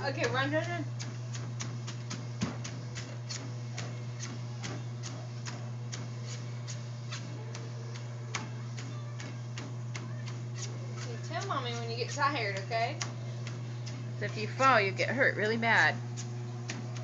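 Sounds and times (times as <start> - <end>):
child's feet running on treadmill: 0.0 - 17.0
treadmill motor hum: 0.0 - 17.0.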